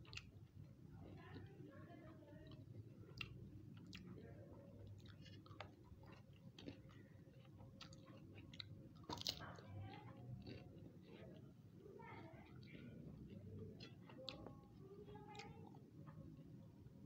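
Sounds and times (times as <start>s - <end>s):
chewing crisp food: 0.0s - 17.0s.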